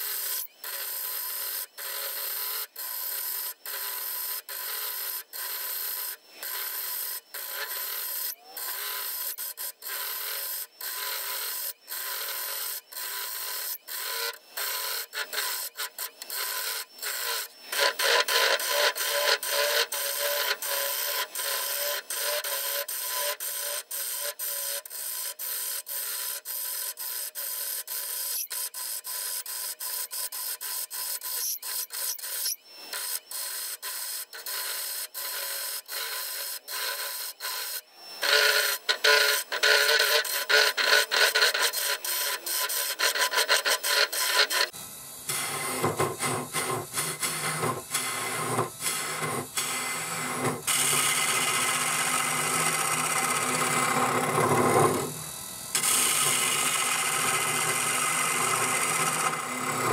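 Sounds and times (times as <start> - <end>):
gouge cutting wood on lathe: 0.2 - 28.6, 31.0 - 59.9.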